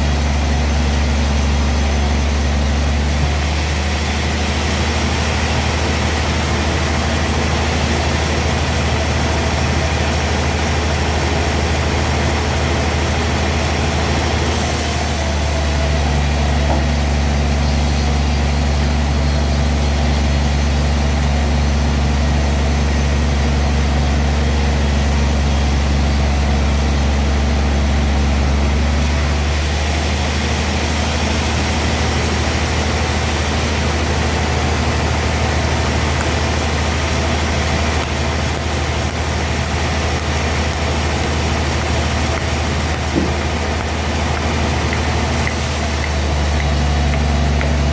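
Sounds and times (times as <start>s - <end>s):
sawmill machinery drone: 0.0s - 47.9s.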